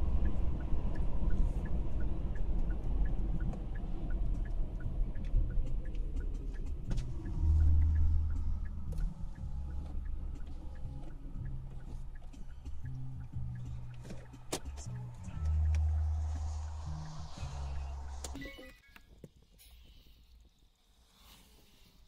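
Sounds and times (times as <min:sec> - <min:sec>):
low rumble: 0:00.0 - 0:18.4
light ticking: 0:00.0 - 0:19.1
road and engine noise: 0:00.0 - 0:20.2.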